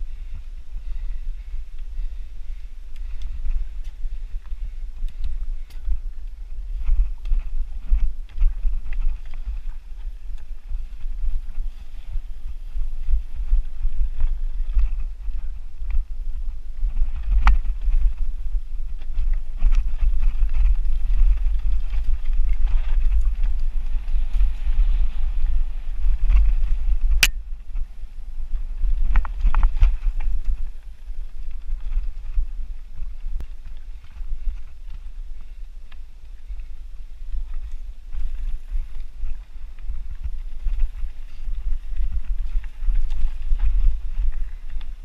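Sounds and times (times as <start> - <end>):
bike rattles and ticks: 0.0 - 45.0
wind rumbling on microphone: 0.0 - 45.0.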